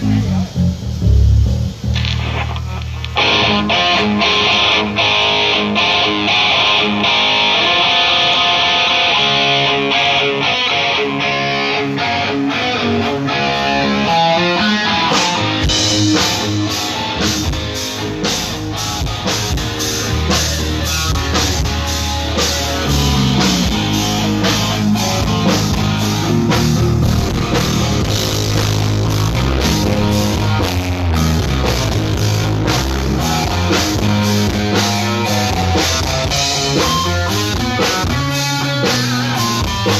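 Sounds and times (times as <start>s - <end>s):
drums and bass beat: 0.0s - 39.9s
electric guitar: 0.0s - 39.9s.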